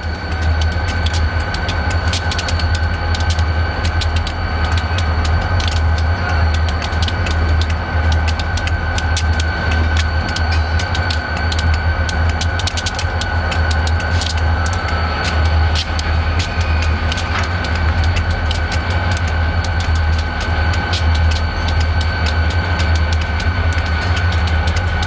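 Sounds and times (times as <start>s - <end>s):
diesel locomotive engines rumbling: 0.0s - 25.0s
high whine: 0.0s - 25.0s
sharp clicks: 0.1s - 25.0s.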